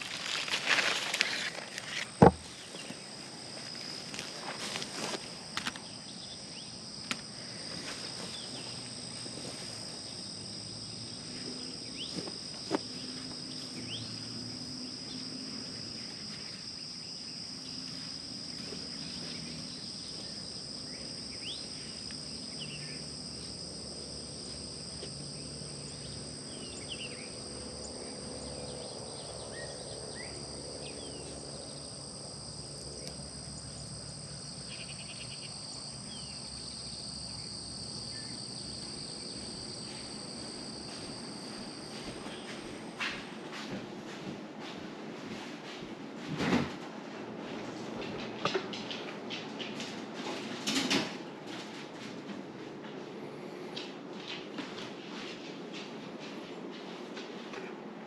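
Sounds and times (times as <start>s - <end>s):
insect chorus: 0.0s - 45.6s, 46.2s - 58.0s.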